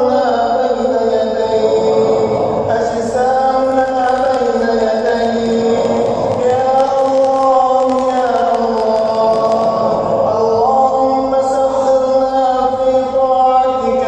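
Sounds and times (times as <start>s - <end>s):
man chanting melodic recitation: 0.0s - 14.0s.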